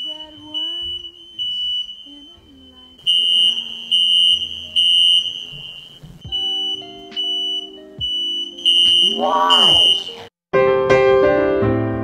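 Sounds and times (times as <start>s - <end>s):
smoke alarm beeping: 0.0s - 10.3s.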